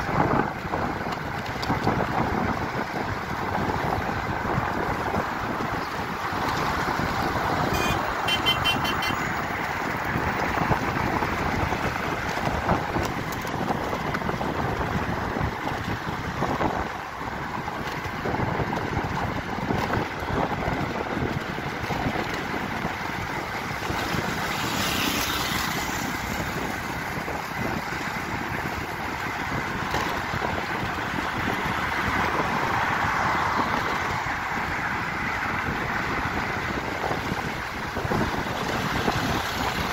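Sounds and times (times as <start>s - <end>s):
road noise: 0.0s - 39.9s
wind buffeting microphone: 0.0s - 39.9s
wind rush from moving car: 0.0s - 39.9s.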